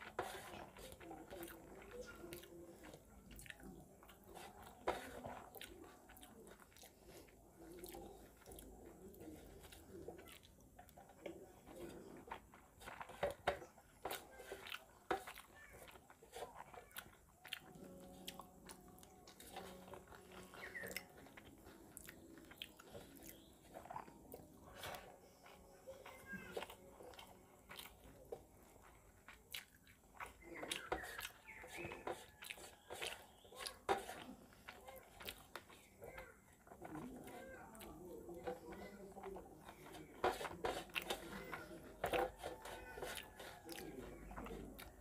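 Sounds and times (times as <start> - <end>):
fingers mixing rice on metal plate: 0.0 - 45.0
person chewing: 0.0 - 45.0.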